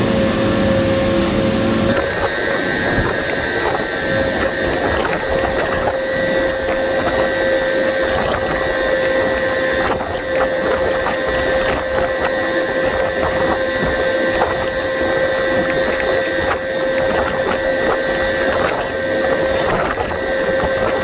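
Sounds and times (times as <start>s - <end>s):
wind turbine machine whine: 0.0s - 21.0s.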